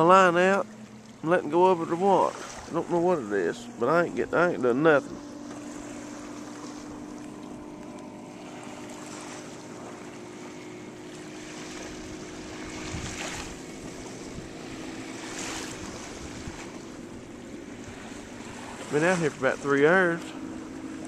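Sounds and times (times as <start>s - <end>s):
small waves lapping at shore: 0.0s - 21.0s
wind: 0.0s - 21.0s.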